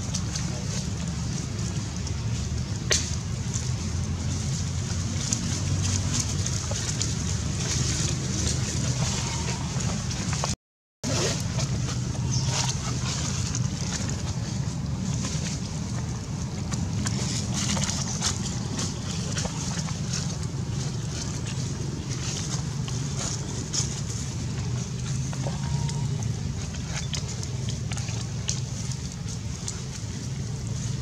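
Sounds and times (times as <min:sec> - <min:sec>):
dry leaves crackling: 0:00.0 - 0:10.5, 0:11.1 - 0:31.0
wind rumble on microphone: 0:00.0 - 0:31.0.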